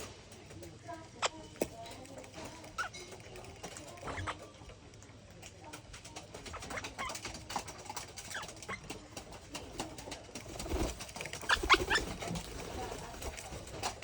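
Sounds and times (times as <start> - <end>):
parakeet chirps and clicks: 0.8 - 12.6.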